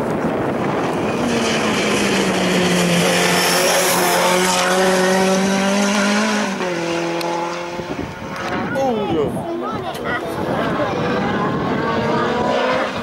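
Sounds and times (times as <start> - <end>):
race car engine at high revs passing: 0.0 - 13.0.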